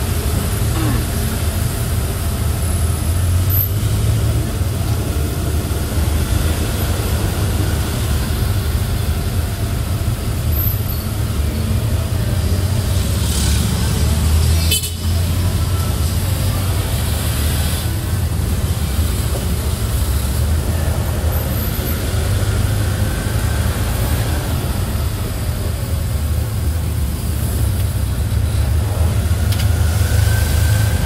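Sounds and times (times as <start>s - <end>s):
engine and road rumble: 0.0s - 31.0s.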